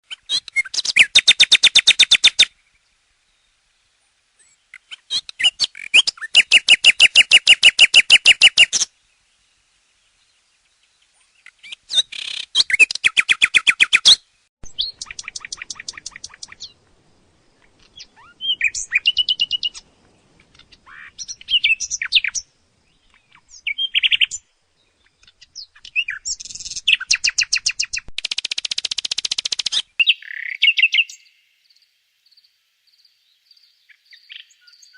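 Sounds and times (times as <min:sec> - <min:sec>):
nightingale singing: 0:00.1 - 0:34.9.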